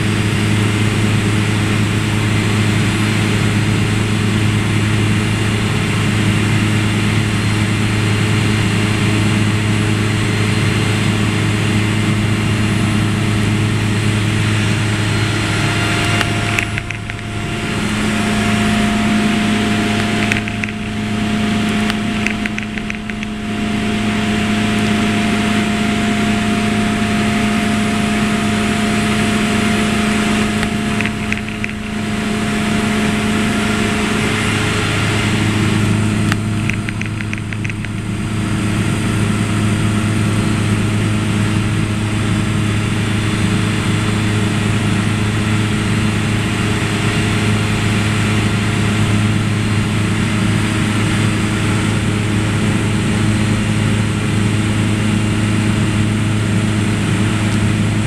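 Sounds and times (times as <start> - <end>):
plane engine droning in cabin: 0.0 - 58.0.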